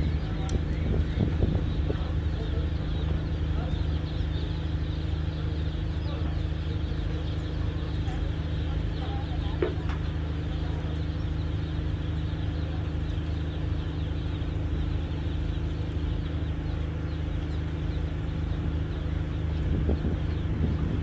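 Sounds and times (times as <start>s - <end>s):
diesel engines idling: 0.0s - 21.0s.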